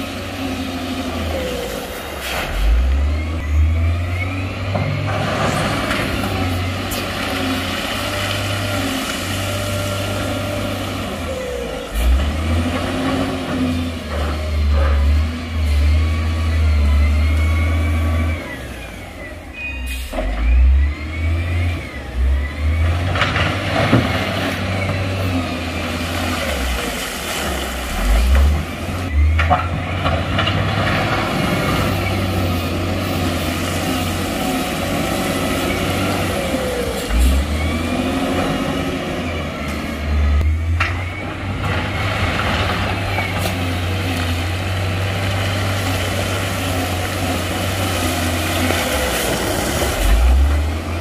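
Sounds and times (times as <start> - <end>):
heavy diesel engine rumbling: 0.0 - 51.0.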